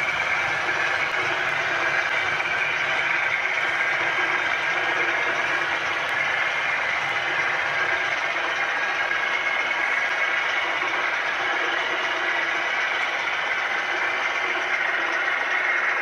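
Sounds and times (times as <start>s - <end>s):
diesel engine through small speaker: 0.0s - 16.0s.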